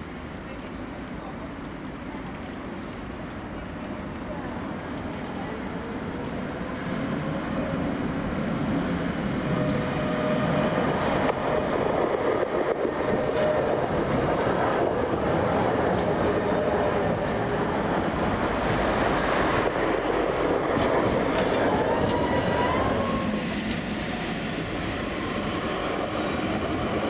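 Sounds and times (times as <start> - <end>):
second tram approaching: 0.0 - 27.0
tram wheels rolling on rails: 1.3 - 27.0.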